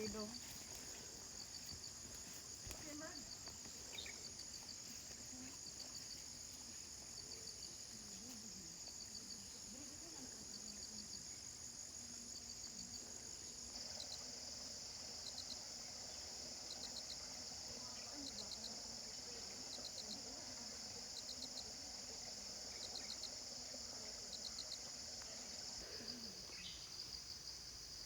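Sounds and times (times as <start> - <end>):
cricket chirps: 0.0 - 28.0
crickets buzzing: 0.0 - 28.0.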